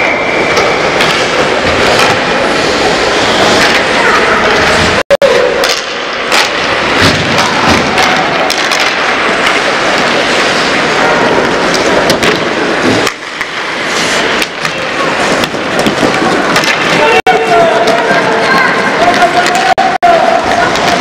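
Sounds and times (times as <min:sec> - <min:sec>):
hockey sticks and puck clacking: 0:00.0 - 0:21.0
skate blades scraping ice: 0:00.4 - 0:21.0.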